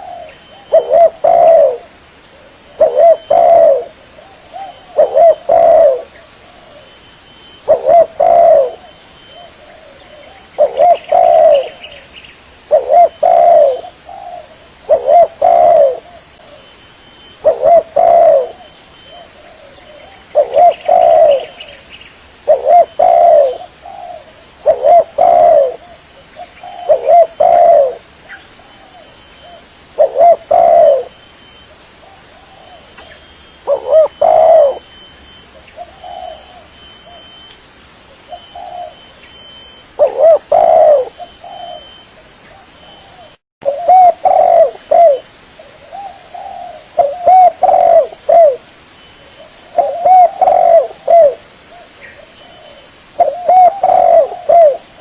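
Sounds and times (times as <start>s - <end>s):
dove cooing: 0.0s - 37.4s, 38.1s - 55.0s.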